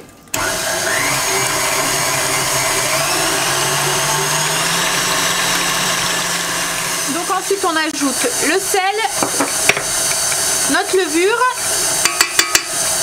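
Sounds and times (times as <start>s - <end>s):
stand mixer motor humming: 0.3s - 13.0s.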